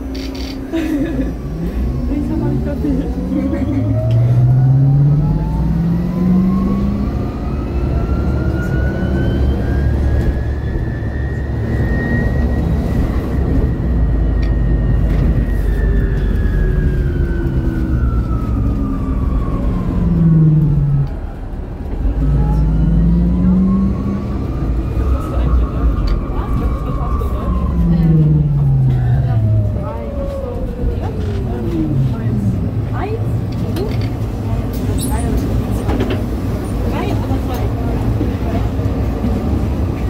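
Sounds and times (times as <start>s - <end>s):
bus low rumble: 0.0s - 40.0s
deeper engine drone: 0.0s - 40.0s.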